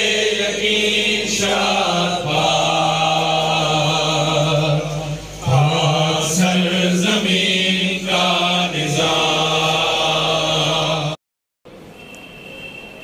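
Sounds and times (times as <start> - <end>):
men singing in unison: 0.0 - 11.2.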